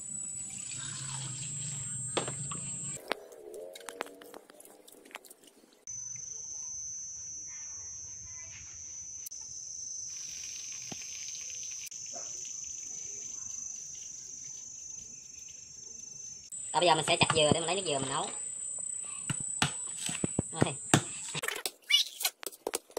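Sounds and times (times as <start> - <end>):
insects chirring: 0.0 - 3.1, 5.9 - 21.4.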